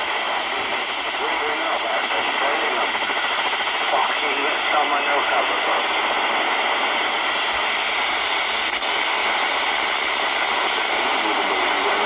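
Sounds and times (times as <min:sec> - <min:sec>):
radio receiver noise hiss: 0:00.0 - 0:12.0.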